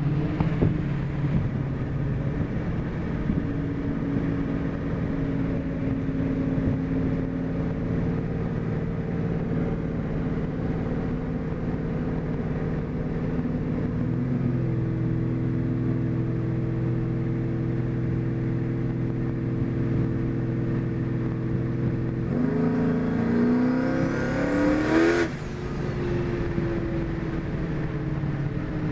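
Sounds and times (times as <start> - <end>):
car engine running and revving: 0.0 - 28.9.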